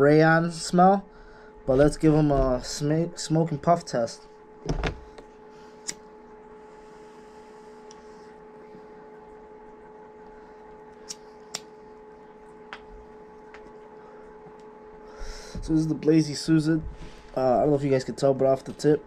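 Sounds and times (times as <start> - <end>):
electrical hum with hiss: 0.0 - 19.0.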